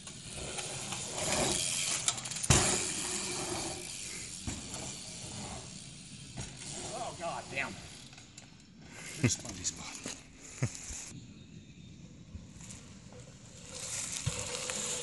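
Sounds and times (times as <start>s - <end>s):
bike tyres rolling on dirt: 0.0s - 15.0s.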